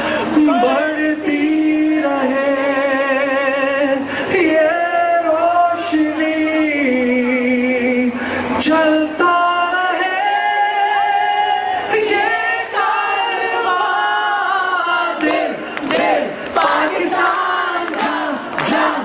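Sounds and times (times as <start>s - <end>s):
man singing into microphone: 0.0s - 15.6s
crowd singing along: 0.0s - 19.0s.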